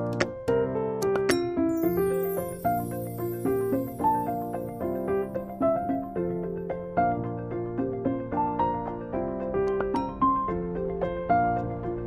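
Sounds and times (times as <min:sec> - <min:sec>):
gentle keyboard melody: 0:00.0 - 0:12.0.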